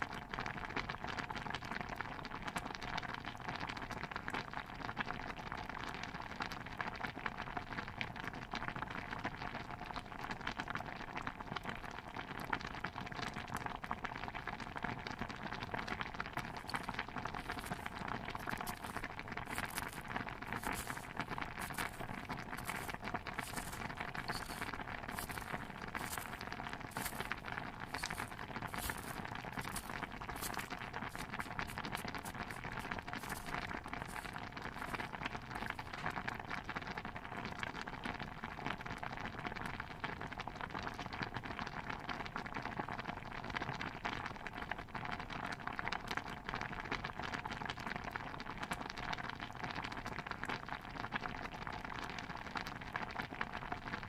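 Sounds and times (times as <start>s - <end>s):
stew bubbling in a pot: 0.0s - 54.0s.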